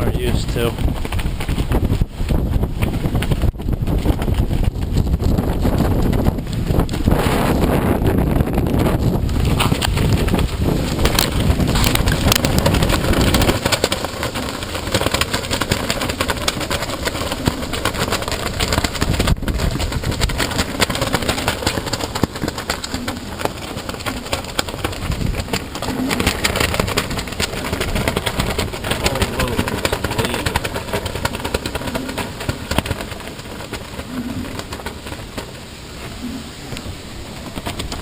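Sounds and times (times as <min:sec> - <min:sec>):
strong wind on microphone: 0:00.0 - 0:38.0.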